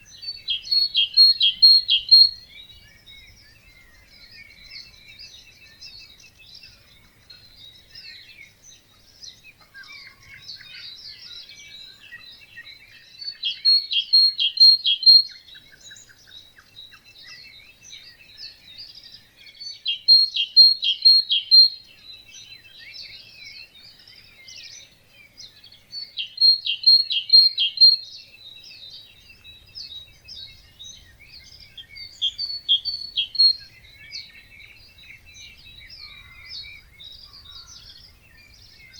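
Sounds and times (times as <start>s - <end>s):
bird singing short song: 0.0s - 38.9s
songbirds chirping: 0.0s - 38.9s.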